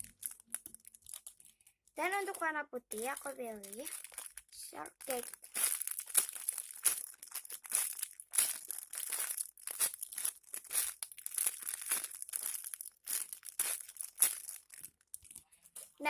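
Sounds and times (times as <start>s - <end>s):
foam toy crinkling rustles: 0.0s - 16.0s.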